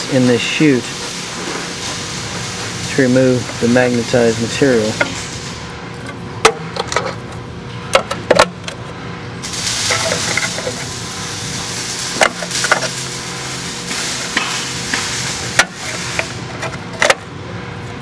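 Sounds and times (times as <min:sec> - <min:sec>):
machinery hiss and hum: 0:00.0 - 0:18.0.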